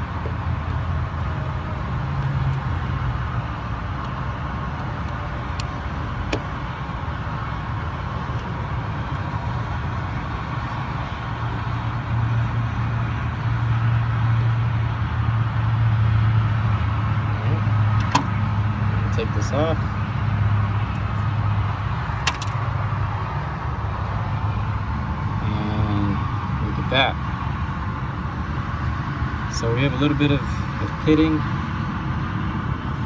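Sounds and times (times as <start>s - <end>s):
low machinery drone: 0.0s - 33.0s.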